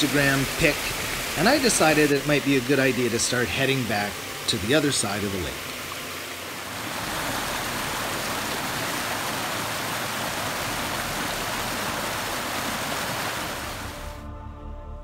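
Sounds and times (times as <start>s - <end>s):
creek cascading over rocks: 0.0s - 14.1s.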